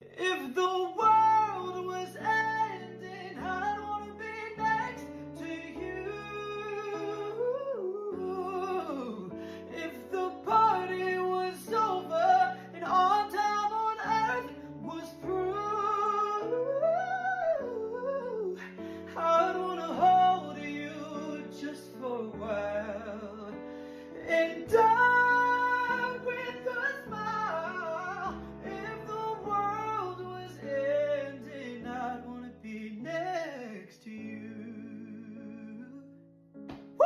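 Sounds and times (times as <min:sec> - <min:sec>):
person singing: 0:00.0 - 0:36.1.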